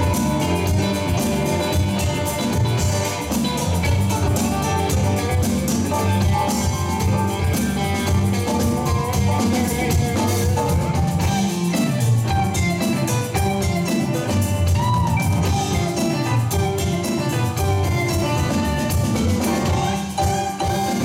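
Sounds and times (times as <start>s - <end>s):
bass: 0.0s - 21.0s
drums: 0.0s - 21.0s
electric guitar lead: 0.0s - 21.0s
hand percussion: 0.0s - 21.0s.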